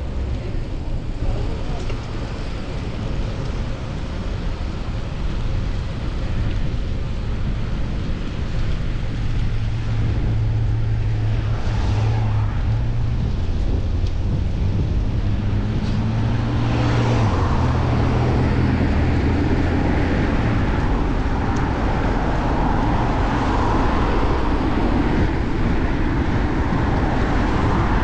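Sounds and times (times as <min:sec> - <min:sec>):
road traffic: 0:00.0 - 0:28.0
vehicle engine hum: 0:00.0 - 0:28.0
wind rush: 0:00.0 - 0:28.0.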